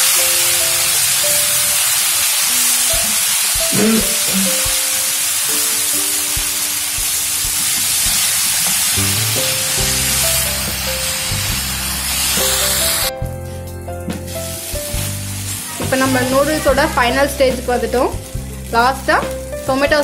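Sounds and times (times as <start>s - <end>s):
noodles sizzling in a pan: 0.0s - 13.1s, 14.0s - 20.0s
background music: 0.0s - 20.0s.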